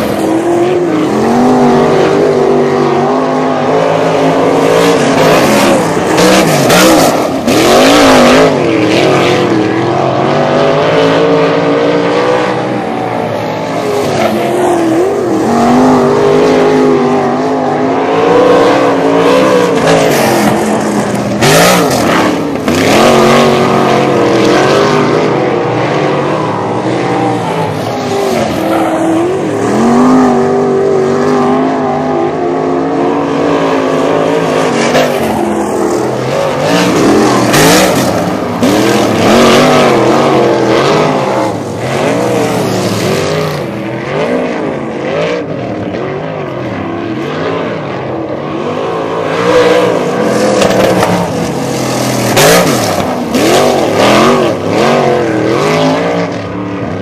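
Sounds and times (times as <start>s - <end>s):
racing car engines revving: 0.0s - 57.0s.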